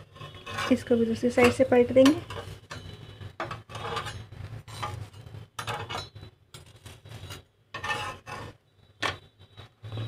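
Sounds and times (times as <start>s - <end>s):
metal spatula scraping a pan: 0.0s - 8.7s.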